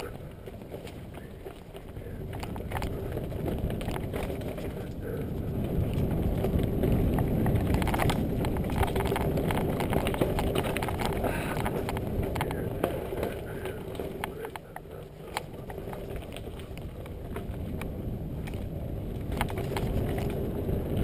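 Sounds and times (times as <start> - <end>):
bike rattling and knocking: 0.0 - 21.0
bike tyres rumbling on dirt: 0.0 - 21.0.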